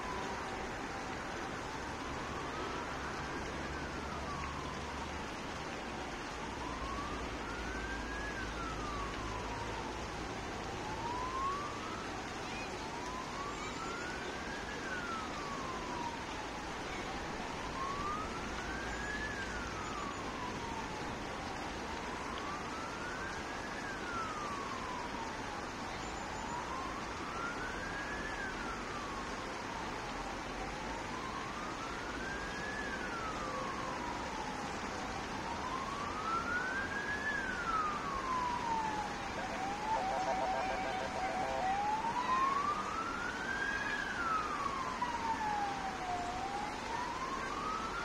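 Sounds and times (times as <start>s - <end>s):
background noise: 0.0s - 48.0s
emergency siren wailing: 0.0s - 48.0s.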